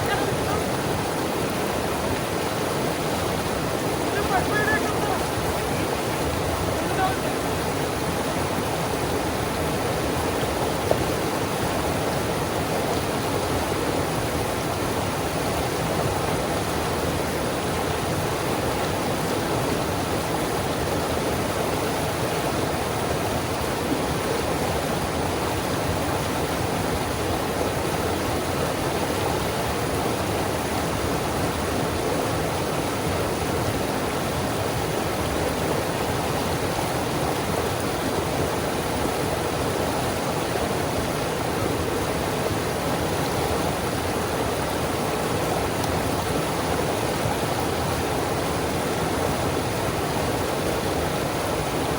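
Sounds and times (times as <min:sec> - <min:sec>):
river rapids rushing: 0:00.0 - 0:51.9.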